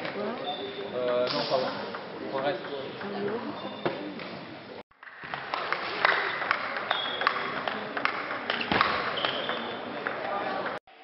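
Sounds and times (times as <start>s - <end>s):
sports hall chatter: 0.0s - 11.0s.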